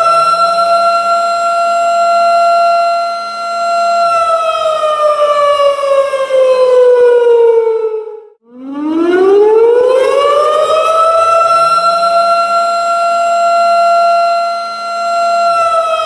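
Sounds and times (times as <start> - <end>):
warning siren wailing: 0.0 - 16.0.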